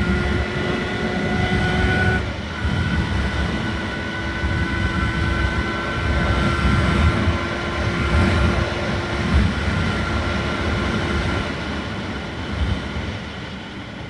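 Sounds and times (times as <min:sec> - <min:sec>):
motorcycle engine running: 0:00.0 - 0:13.1
engine whine: 0:00.0 - 0:14.0
road rumble: 0:00.0 - 0:14.0
wind noise: 0:00.0 - 0:14.0.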